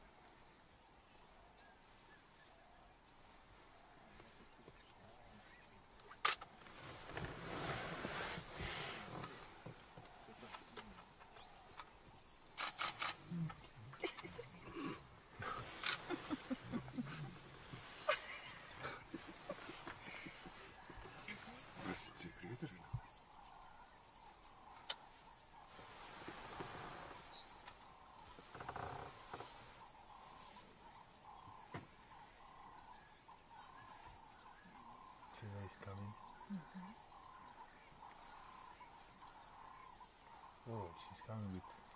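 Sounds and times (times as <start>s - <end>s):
insect chirping: 0.0s - 41.9s.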